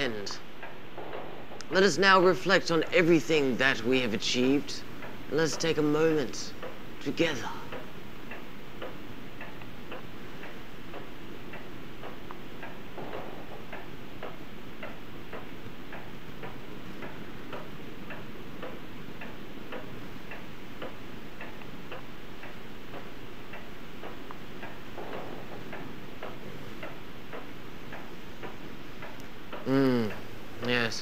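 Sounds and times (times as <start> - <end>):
background hiss: 0.0 - 31.0
clock ticking: 0.0 - 31.0.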